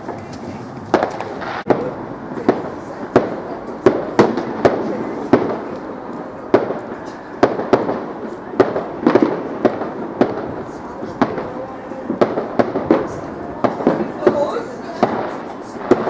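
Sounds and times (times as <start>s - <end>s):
fireworks bangs: 0.0s - 16.0s
fireworks crackle and rumble: 0.0s - 16.0s.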